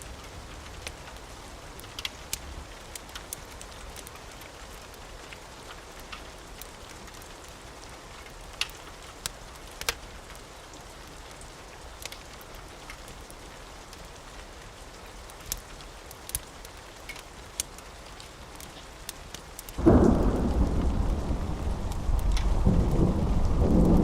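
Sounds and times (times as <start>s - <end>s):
steady rain: 0.0s - 24.0s
wood fire crackling: 0.0s - 24.0s.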